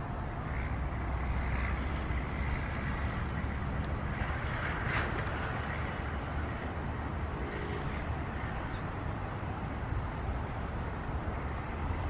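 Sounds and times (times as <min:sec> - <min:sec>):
distant road traffic: 0:00.0 - 0:12.0.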